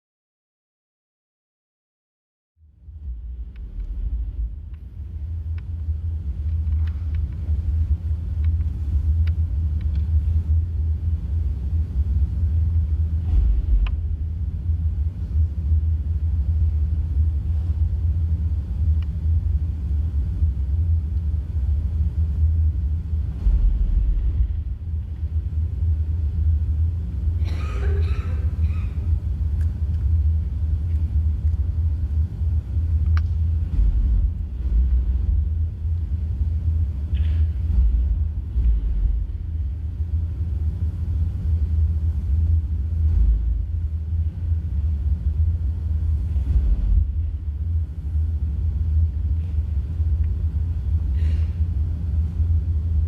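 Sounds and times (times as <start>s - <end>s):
loud deep rumble: 2.6s - 53.0s.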